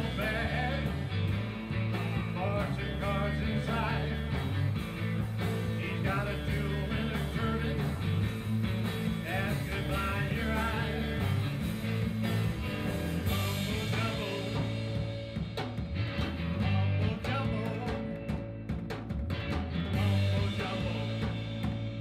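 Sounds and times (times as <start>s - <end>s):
bass guitar: 0.0s - 22.0s
drum kit: 0.0s - 22.0s
electric guitar lead line: 0.0s - 22.0s.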